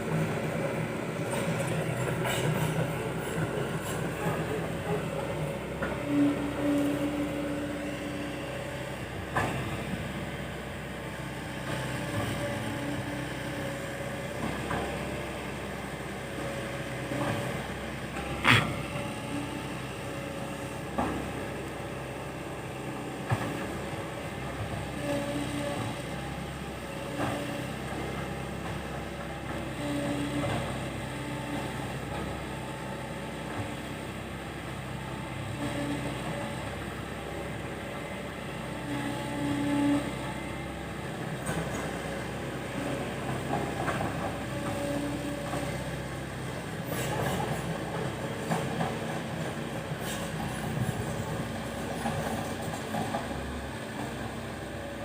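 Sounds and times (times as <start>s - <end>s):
diesel engine running: 0.0s - 55.0s
engine whine: 0.0s - 55.0s.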